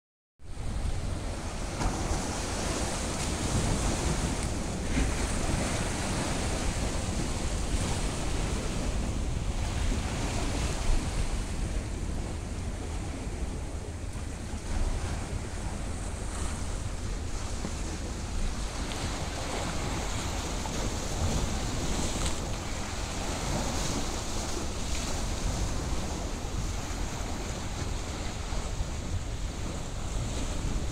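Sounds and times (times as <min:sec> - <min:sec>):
wind rumbling on microphone: 0:00.4 - 0:30.9
sea waves washing: 0:00.5 - 0:30.9.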